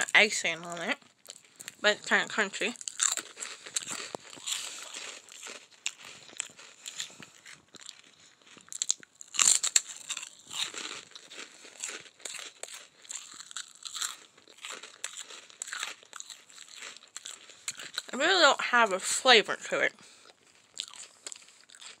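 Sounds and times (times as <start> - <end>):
crunching and chewing snack: 0.0 - 22.0.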